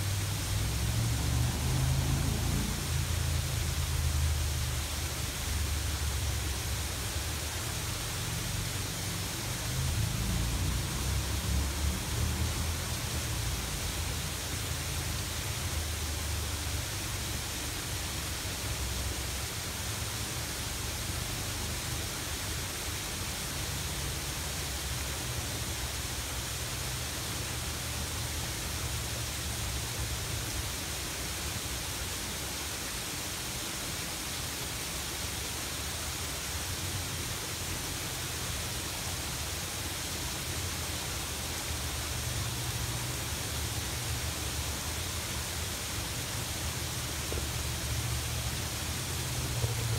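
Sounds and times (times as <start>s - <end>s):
waterfall rushing into pond: 0.0s - 49.9s.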